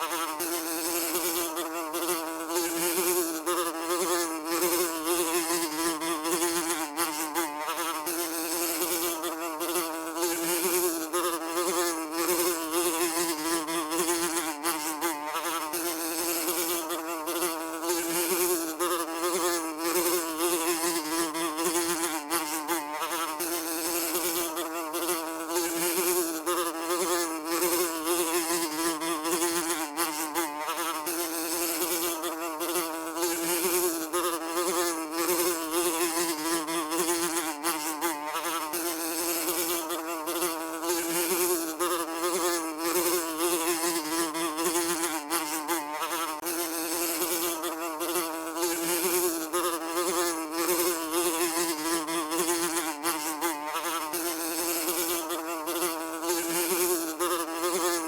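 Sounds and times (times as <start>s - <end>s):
fly buzzing: 0.0s - 58.0s.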